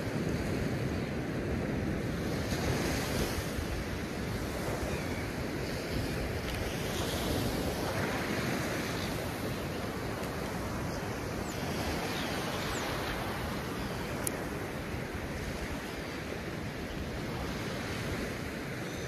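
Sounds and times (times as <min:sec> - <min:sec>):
ocean surf washing onto beach: 0:00.0 - 0:19.0
wind on microphone: 0:00.0 - 0:19.0.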